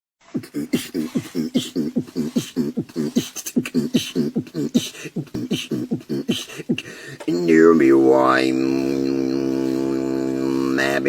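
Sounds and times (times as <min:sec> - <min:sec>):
man beatboxing: 0:00.2 - 0:11.0.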